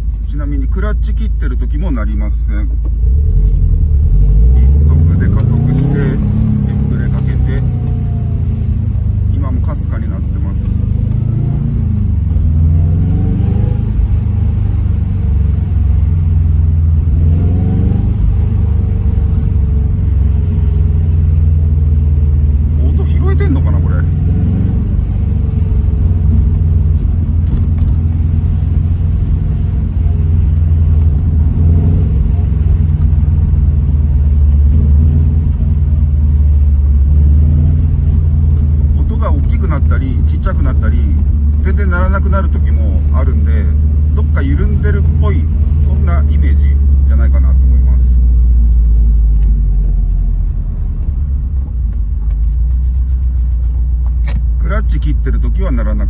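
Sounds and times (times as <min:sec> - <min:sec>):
car engine drone: 0:00.0 - 0:56.0
road noise: 0:00.0 - 0:56.0.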